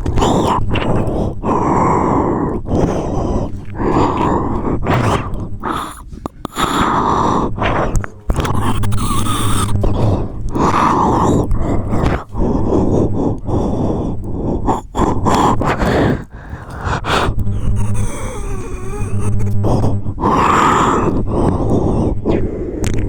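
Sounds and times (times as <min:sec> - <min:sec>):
person growling and grunting: 0:00.0 - 0:23.0.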